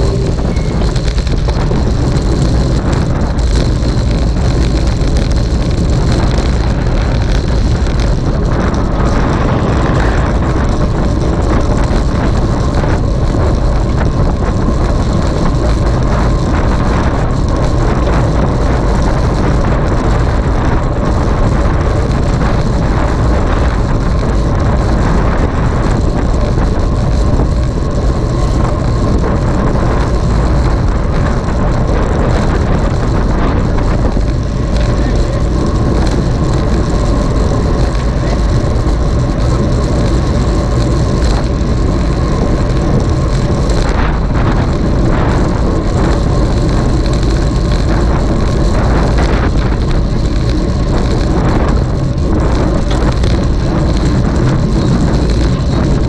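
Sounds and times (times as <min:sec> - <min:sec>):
low road rumble: 0:00.0 - 0:56.0
wind buffeting microphone: 0:00.0 - 0:56.0.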